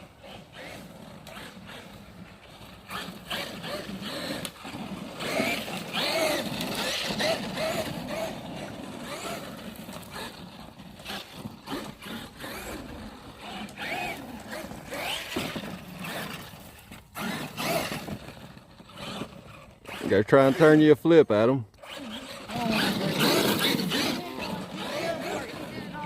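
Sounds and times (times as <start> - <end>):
electric motor whining: 0.0 - 20.9, 21.6 - 26.0.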